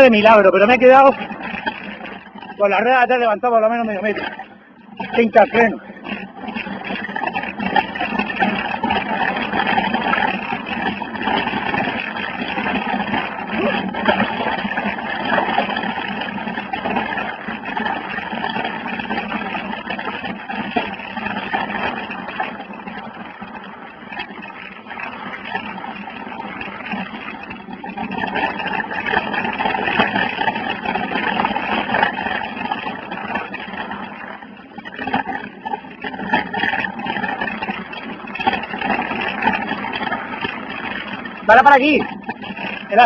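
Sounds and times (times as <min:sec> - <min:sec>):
tyres rolling over dirt: 0:00.0 - 0:43.0.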